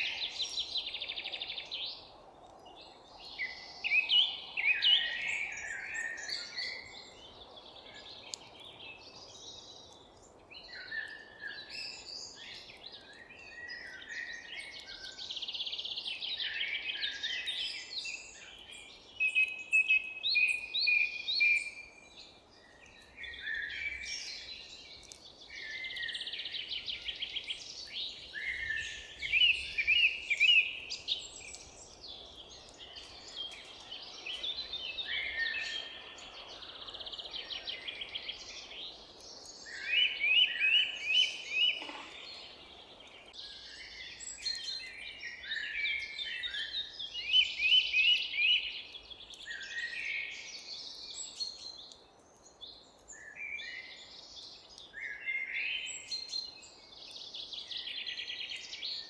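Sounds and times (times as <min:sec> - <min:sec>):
birds singing and chirping: 0:00.0 - 0:59.0.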